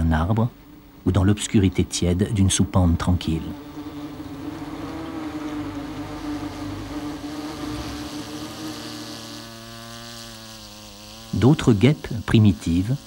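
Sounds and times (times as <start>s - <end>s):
wasps buzzing: 1.7s - 13.0s.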